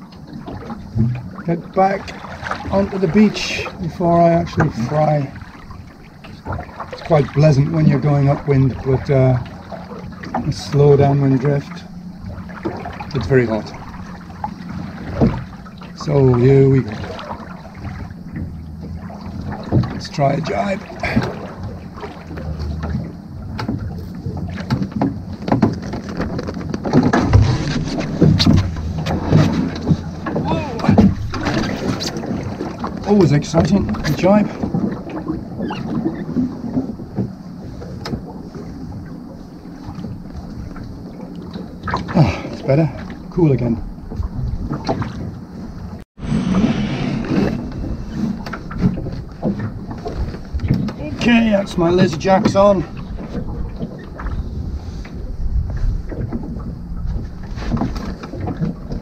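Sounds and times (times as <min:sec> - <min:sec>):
water noise: 0:00.0 - 0:59.0
wind: 0:00.0 - 0:59.0.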